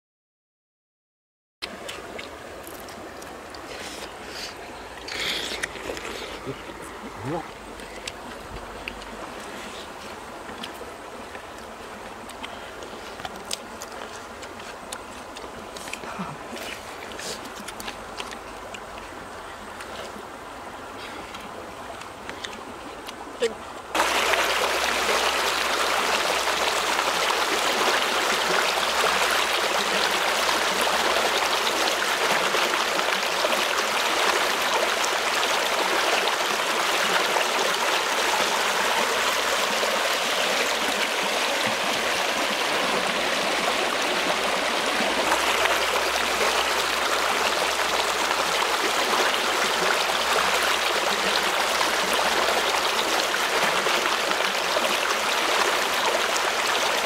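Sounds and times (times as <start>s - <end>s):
stream flowing: 1.6s - 57.0s.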